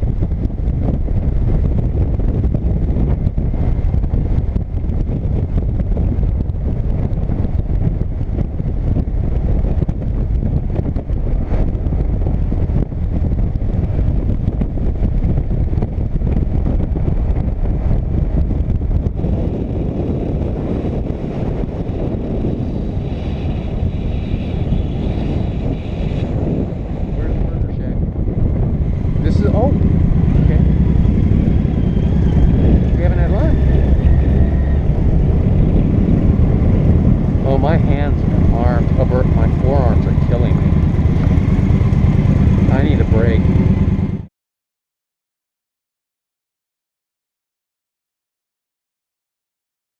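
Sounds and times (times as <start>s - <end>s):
motorcycle engine and road rumble: 0.0s - 44.3s
wind rushing over microphone: 0.0s - 44.3s.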